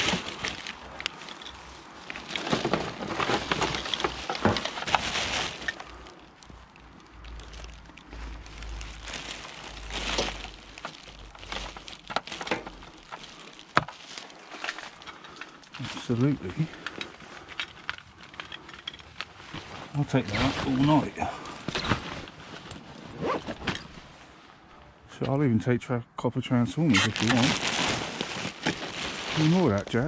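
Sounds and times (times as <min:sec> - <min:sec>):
plastic bags rustling: 0:00.0 - 0:24.4, 0:26.8 - 0:30.0.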